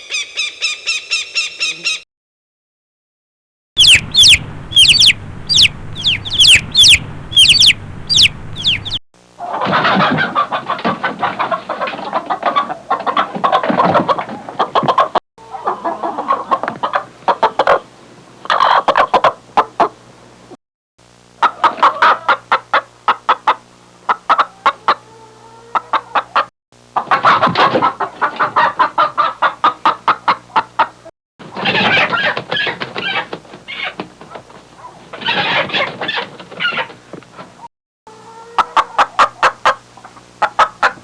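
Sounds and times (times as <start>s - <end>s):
hens clucking: 3.8s - 20.0s, 21.4s - 41.0s.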